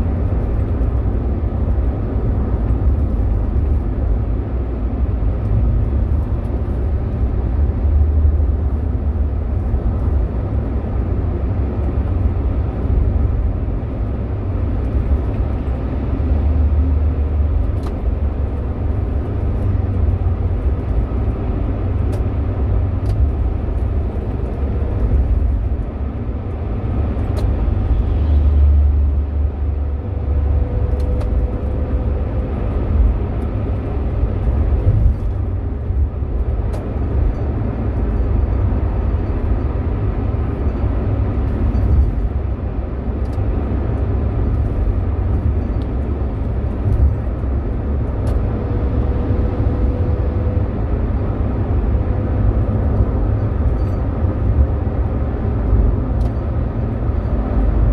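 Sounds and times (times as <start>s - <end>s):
car cabin road and engine rumble: 0.0s - 57.9s.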